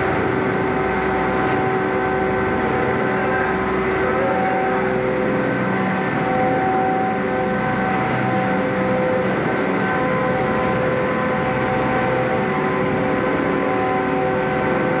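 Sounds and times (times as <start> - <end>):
grinding machine drone: 0.0 - 15.0
machine whining tones: 0.0 - 15.0.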